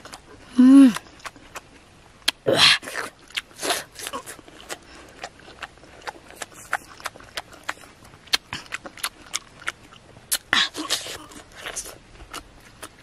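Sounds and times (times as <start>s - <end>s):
wet chewing and mouth smacks: 0.0s - 13.0s.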